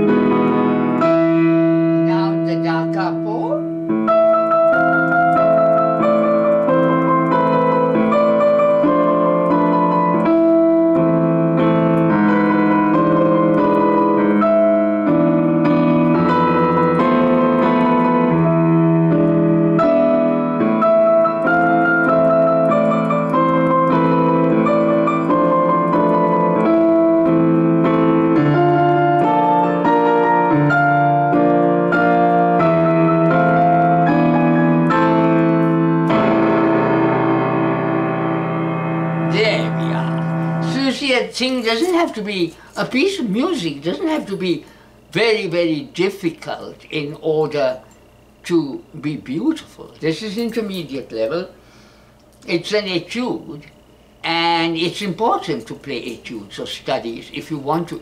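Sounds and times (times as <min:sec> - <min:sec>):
digital piano playing octaves: 0:00.0 - 0:51.6, 0:52.4 - 0:58.0.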